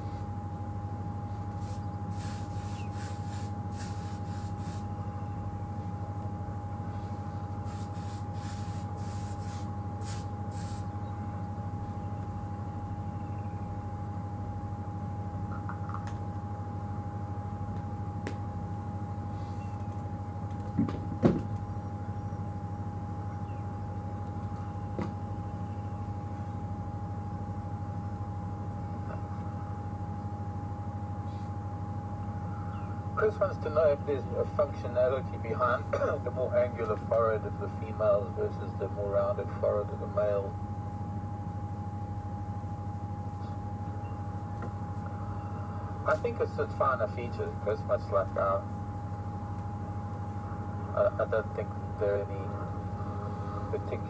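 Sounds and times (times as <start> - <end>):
constant high-pitched tone: 0.0 - 54.0
steady mechanical hum: 0.0 - 54.0.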